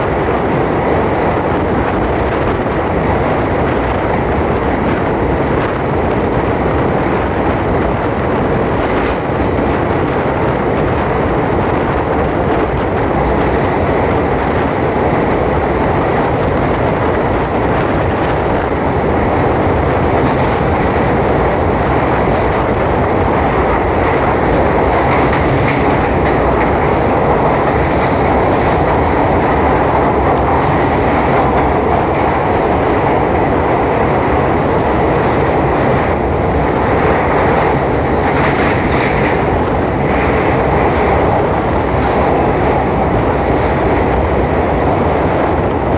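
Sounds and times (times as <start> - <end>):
train rumbling with wheel clatter: 0.0 - 45.9.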